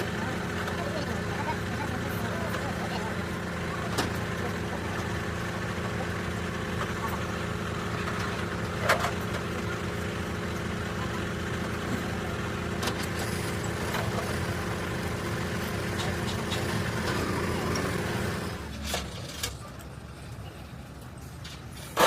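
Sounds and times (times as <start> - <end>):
engine idling: 0.0 - 18.9.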